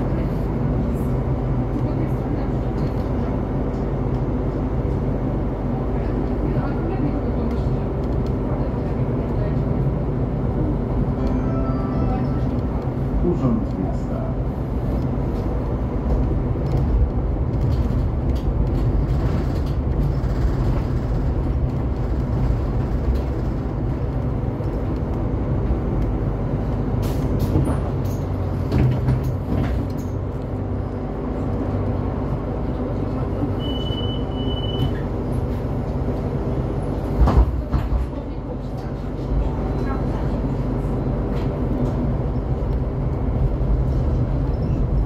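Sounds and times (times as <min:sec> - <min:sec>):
trolleybus cabin rumble: 0:00.0 - 0:45.0.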